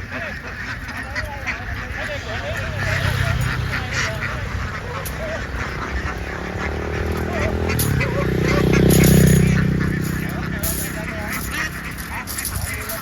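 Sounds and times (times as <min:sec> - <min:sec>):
low engine hum: 0:00.6 - 0:13.0.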